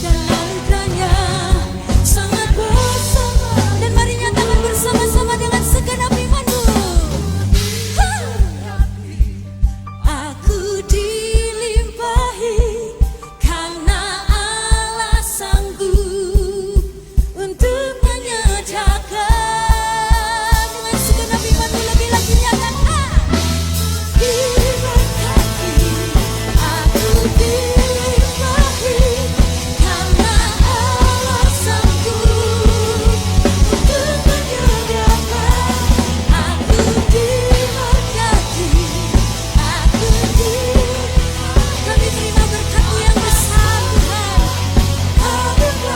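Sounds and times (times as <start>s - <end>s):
bass guitar: 0.0s - 12.0s, 19.4s - 45.9s
worship band playing: 0.0s - 16.2s, 16.8s - 45.9s
people singing: 0.0s - 16.8s, 17.4s - 45.9s
drum kit beat: 0.0s - 45.9s.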